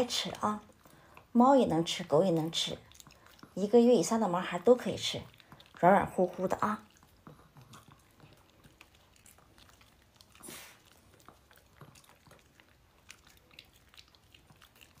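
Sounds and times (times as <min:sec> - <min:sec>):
dogs chewing treats: 0:00.0 - 0:15.0.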